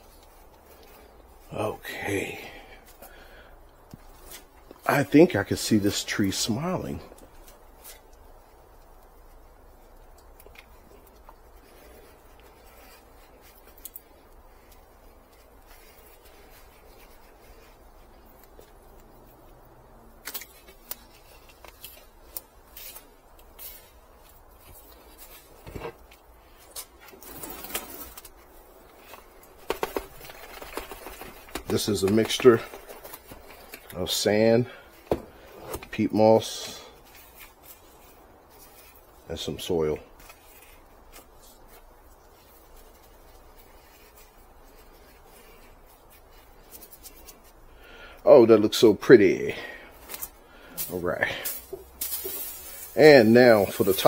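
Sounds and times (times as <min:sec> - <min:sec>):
potting mix rustling: 0:00.0 - 0:54.0.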